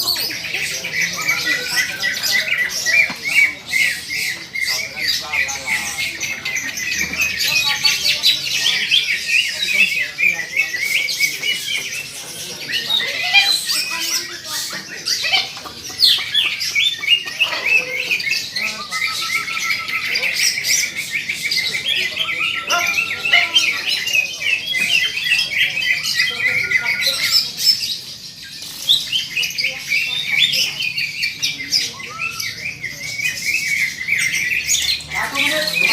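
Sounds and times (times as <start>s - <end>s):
birds chirping and squawking: 0.0s - 35.9s.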